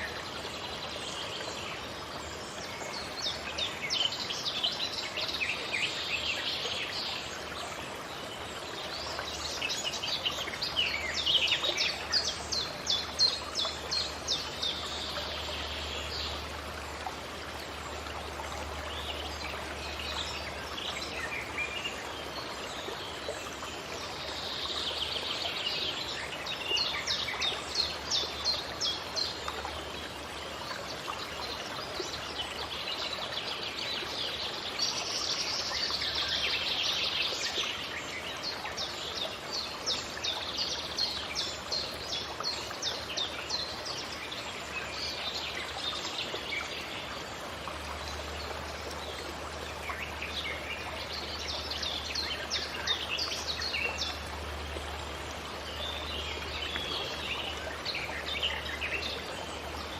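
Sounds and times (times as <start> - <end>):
rushing stream: 0.0 - 59.9.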